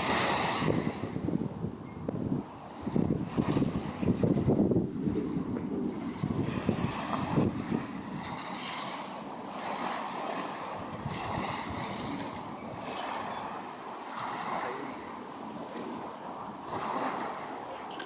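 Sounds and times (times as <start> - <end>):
small waves washing ashore: 0.0 - 18.0
wind on microphone: 0.0 - 18.0.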